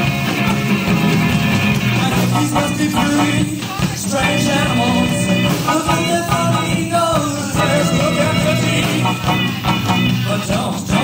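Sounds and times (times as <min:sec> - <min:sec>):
rock and roll band music: 0:00.0 - 0:11.0.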